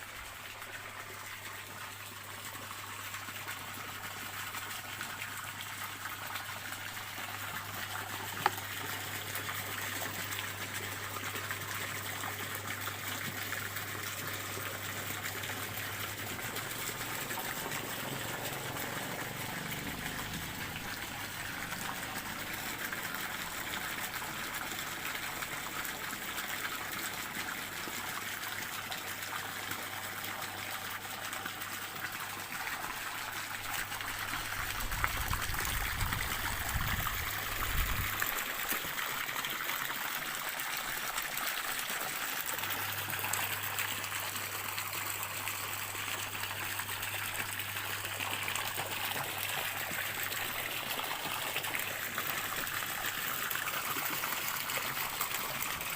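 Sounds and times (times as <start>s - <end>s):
stream water trickling: 0.0s - 55.9s.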